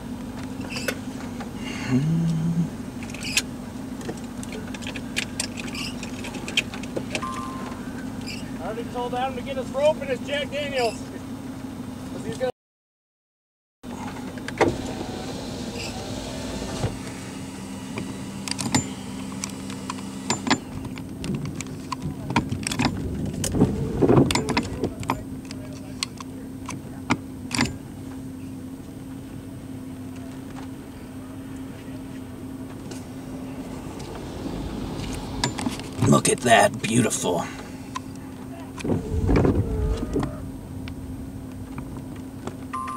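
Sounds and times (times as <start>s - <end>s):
vehicle engine humming: 0.0s - 12.5s, 13.9s - 42.9s.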